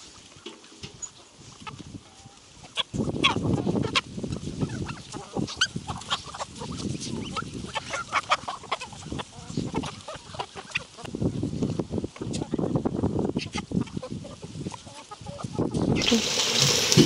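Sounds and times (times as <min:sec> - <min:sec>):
chickens and ducks clucking: 0:00.0 - 0:17.0.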